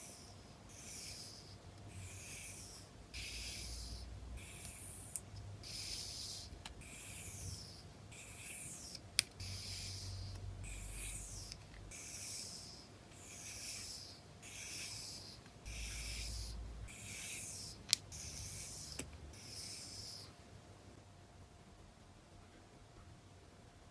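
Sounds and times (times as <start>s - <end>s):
cards rubbing and swishing: 0.0s - 20.3s.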